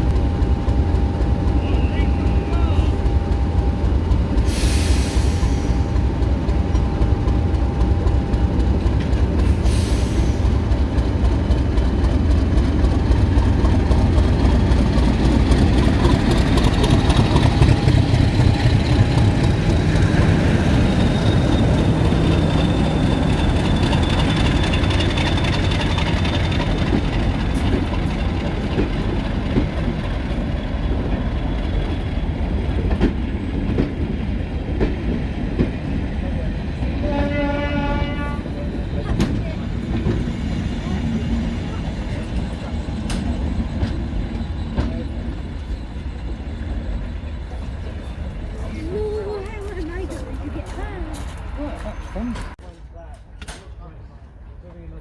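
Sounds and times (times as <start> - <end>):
diesel train engine drone: 0.0 - 55.0.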